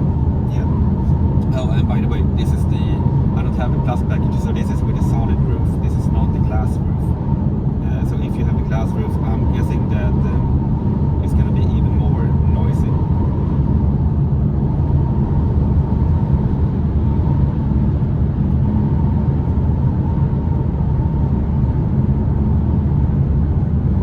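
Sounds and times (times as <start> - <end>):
wind and road noise in car: 0.0 - 24.0.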